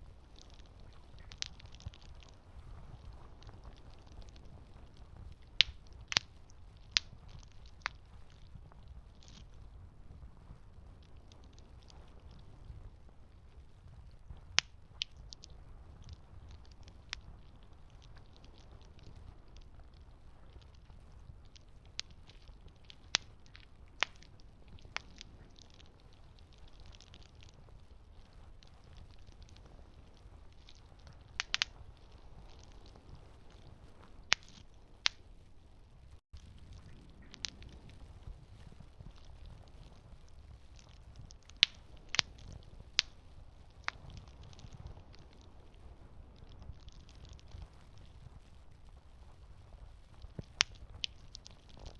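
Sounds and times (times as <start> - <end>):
campfire crackling: 0.0 - 51.9
low rumble of flames: 0.0 - 51.9.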